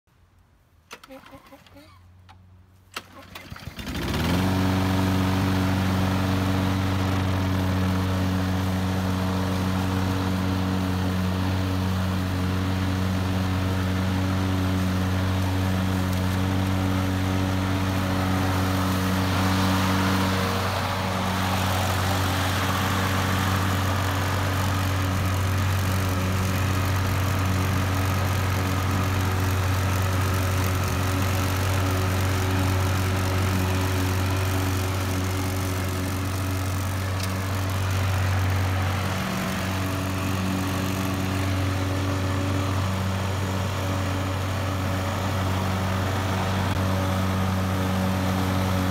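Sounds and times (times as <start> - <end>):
lawn mower engine running: 2.9 - 48.9
mower cutting grass: 2.9 - 48.9.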